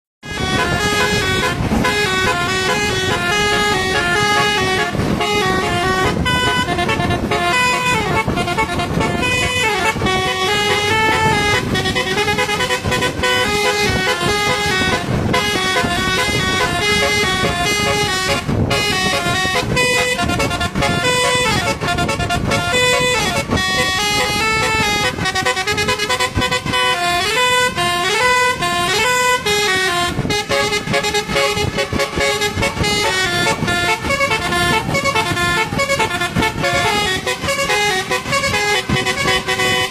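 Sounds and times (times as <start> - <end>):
air horn playing a melody: 0.2 - 39.9.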